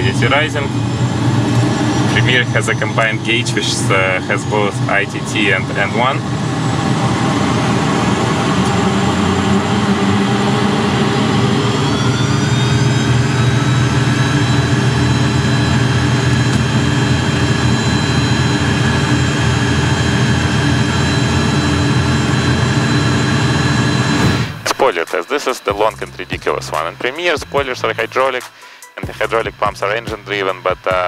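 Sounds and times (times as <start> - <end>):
low rumble: 0.0 - 24.8, 25.7 - 28.1
jet engine whine spooling up: 0.0 - 31.0.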